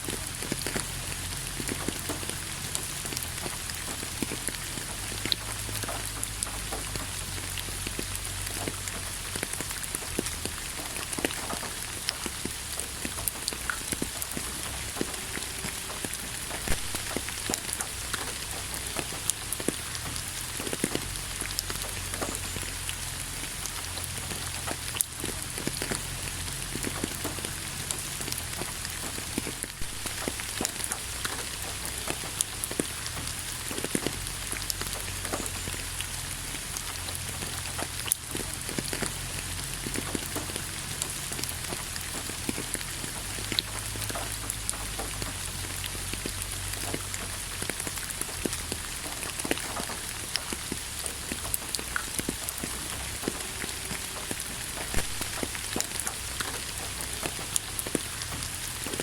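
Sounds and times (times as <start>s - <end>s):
raindrops tapping close by: 0.0s - 59.0s
steady rain hiss: 0.0s - 59.0s.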